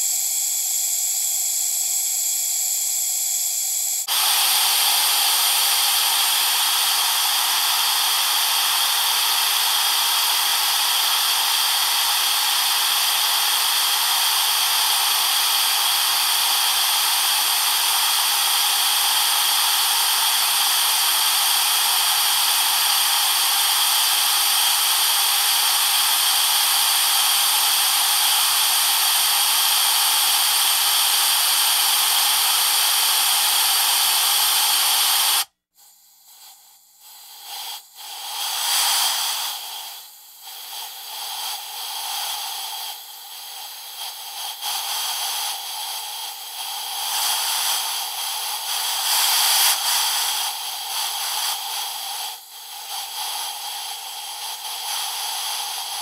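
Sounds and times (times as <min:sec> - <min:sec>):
compressed air hissing: 0:00.0 - 0:56.0.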